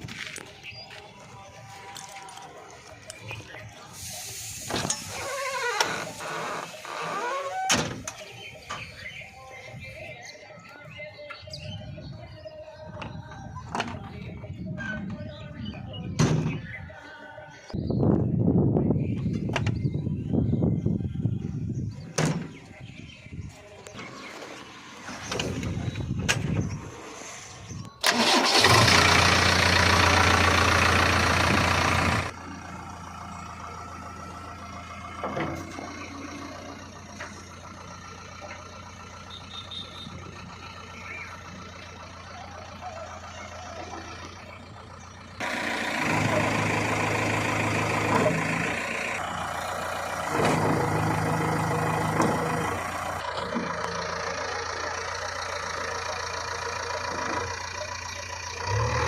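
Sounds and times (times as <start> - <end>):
diesel backhoe engine running: 0.0 - 59.0.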